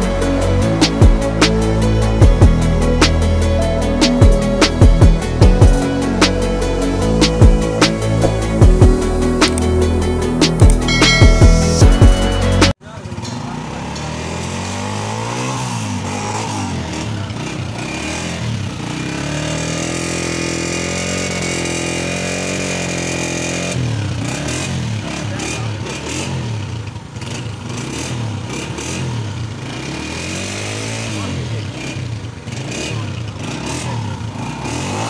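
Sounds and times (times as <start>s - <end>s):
motorcycle engine revving: 0.0s - 11.4s, 12.2s - 35.0s.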